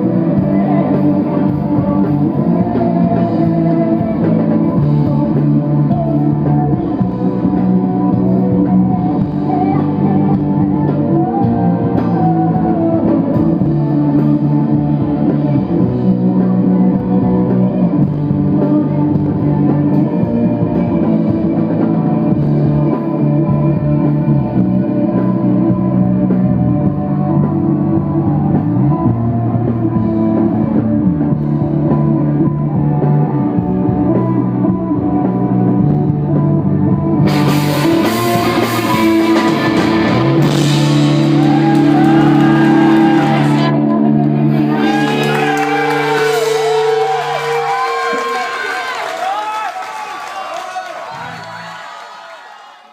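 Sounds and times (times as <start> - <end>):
rock band playing live: 0.0 - 49.4.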